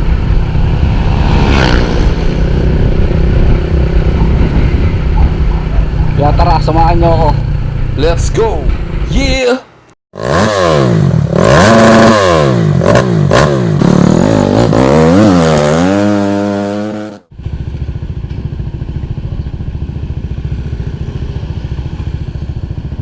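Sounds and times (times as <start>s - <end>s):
scooter engine revving: 0.3s - 6.3s, 10.2s - 23.0s.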